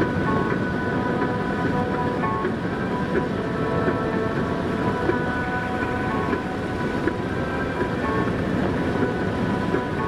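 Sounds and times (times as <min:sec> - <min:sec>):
car road and engine rumble: 0:00.0 - 0:10.0
car stereo music: 0:00.0 - 0:10.0.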